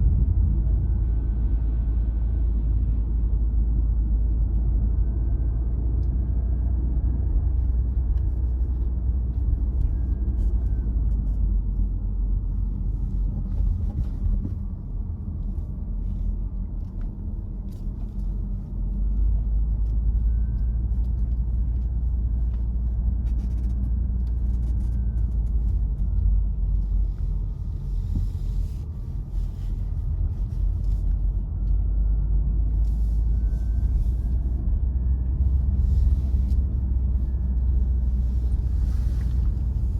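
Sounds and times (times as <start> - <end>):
car tyres and engine rumble: 0.0 - 39.9
faint whine: 0.0 - 39.9.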